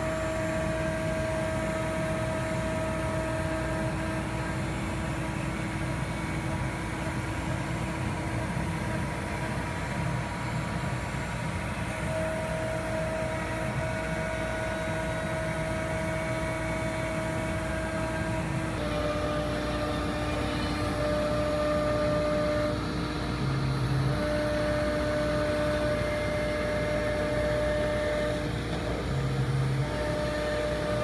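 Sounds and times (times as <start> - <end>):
cnc router spindle hum: 0.0 - 31.0
high steady whine: 0.0 - 31.0.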